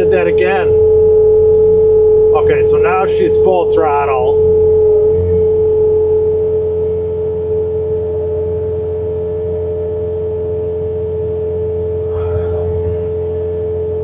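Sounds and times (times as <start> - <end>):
loader engine drone: 0.0 - 14.0
snowblower whine: 0.0 - 14.0.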